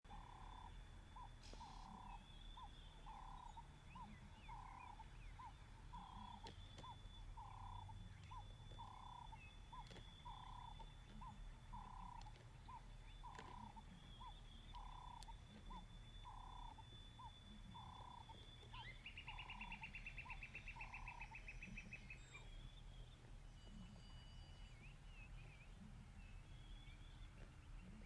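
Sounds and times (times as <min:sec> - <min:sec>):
low background rumble: 0:00.0 - 0:28.0.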